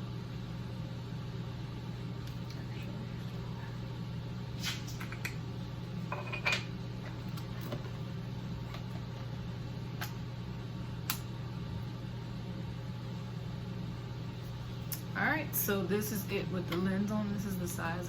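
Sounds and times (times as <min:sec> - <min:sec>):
air conditioner hum: 0:00.0 - 0:18.0.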